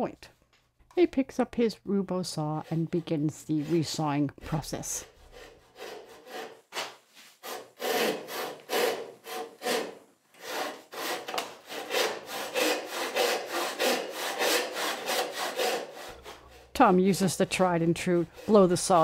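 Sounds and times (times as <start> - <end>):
frame saw rasping through wood: 2.6 - 19.0.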